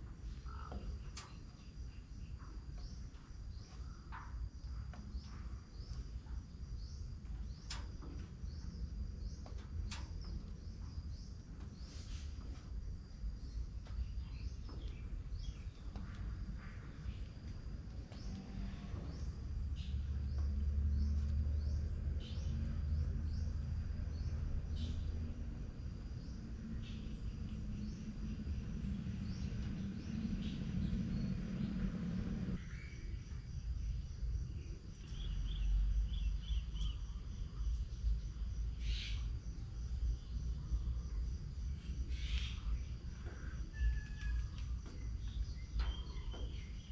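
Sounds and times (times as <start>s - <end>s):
low hum: 0.0s - 38.7s
high insect trill: 0.0s - 46.9s.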